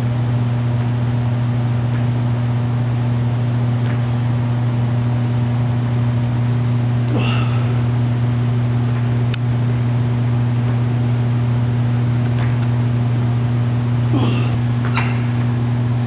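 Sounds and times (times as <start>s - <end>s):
loud low two-tone hum: 0.0s - 16.0s.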